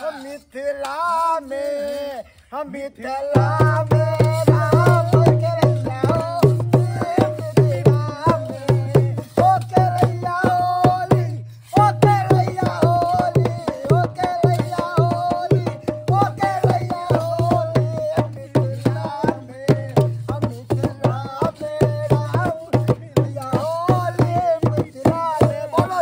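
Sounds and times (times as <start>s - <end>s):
men singing loudly: 0.0s - 26.0s
barrel drum rhythm: 3.2s - 26.0s.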